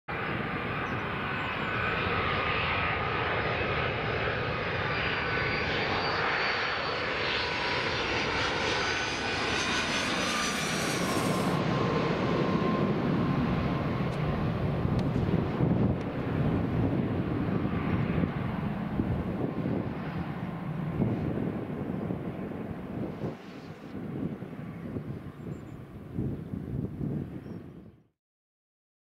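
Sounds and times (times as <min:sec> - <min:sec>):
jet airliner engines roaring overhead: 0:00.1 - 0:28.0.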